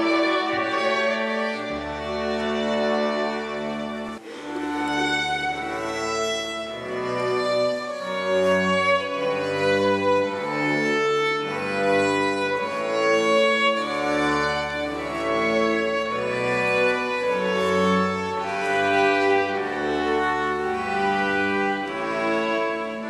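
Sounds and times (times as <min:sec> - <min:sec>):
string orchestra playing: 0:00.0 - 0:23.0.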